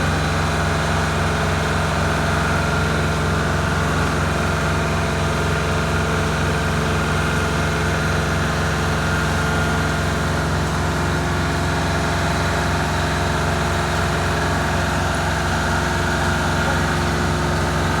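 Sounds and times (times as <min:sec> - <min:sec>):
paving machine engine idling: 0:00.0 - 0:18.0.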